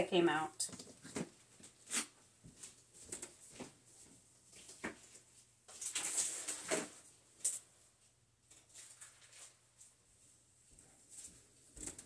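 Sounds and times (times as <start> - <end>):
rustling: 0.7 - 7.7, 8.5 - 12.0.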